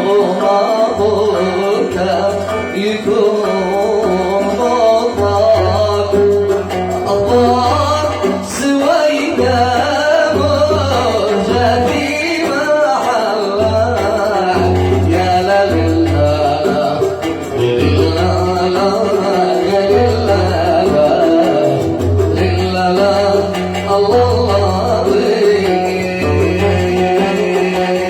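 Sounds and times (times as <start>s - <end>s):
man singing: 0.0s - 28.0s
oud playing: 0.0s - 28.0s.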